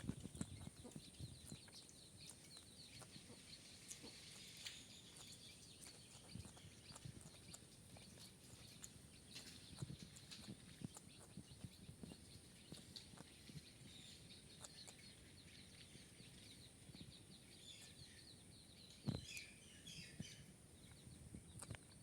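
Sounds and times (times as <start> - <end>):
young parrot chirping: 0.0 - 21.8.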